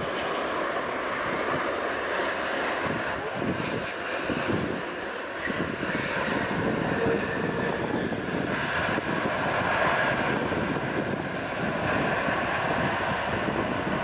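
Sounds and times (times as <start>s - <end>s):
jet engines landing: 0.0s - 14.0s.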